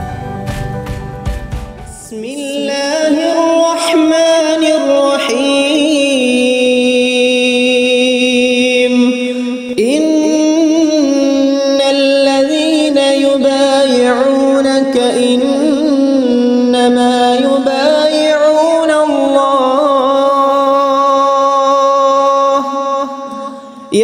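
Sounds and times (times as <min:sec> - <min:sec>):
person chanting recitation: 0:01.9 - 0:24.0.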